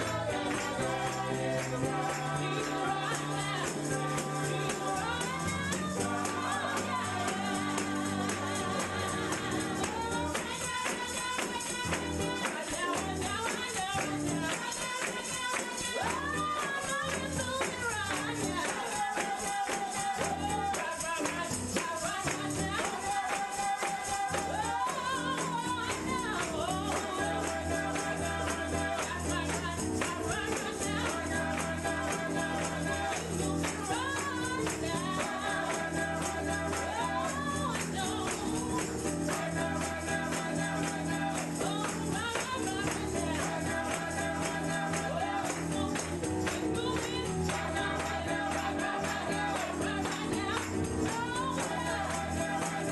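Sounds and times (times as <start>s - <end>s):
gospel music with singing: 0.0s - 52.9s
tambourine shaking: 0.0s - 52.9s.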